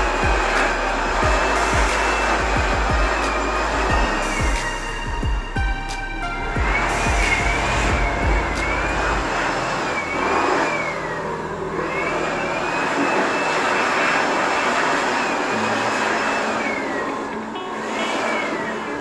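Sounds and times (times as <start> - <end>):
orbital sander on plywood: 0.0 - 19.0.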